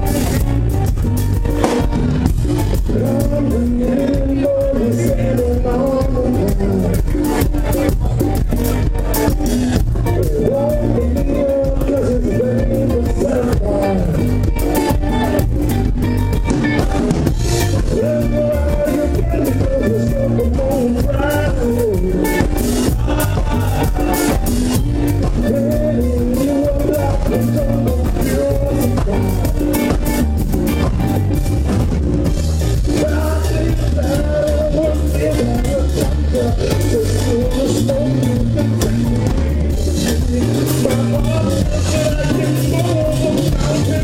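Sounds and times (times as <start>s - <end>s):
man singing lead: 0.0s - 31.4s, 32.3s - 44.0s
drum kit beat: 0.0s - 44.0s
electric guitars: 0.0s - 44.0s.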